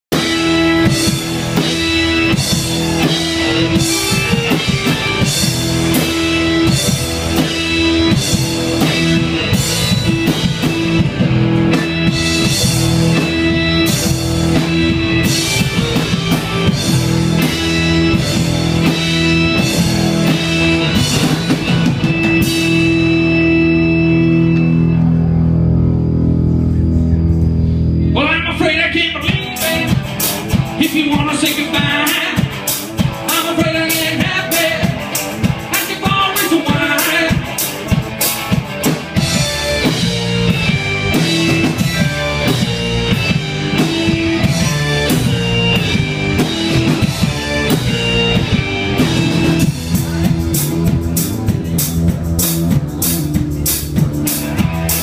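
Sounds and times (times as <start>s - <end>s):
drum kit with cymbal hits: 0.1s - 25.4s, 26.3s - 55.0s
electric guitars: 0.1s - 55.0s
keyboard: 0.1s - 55.0s.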